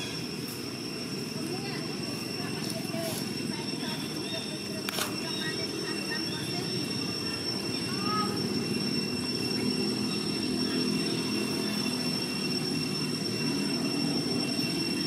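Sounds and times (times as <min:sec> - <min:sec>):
high-pitched tones: 0:00.0 - 0:15.0.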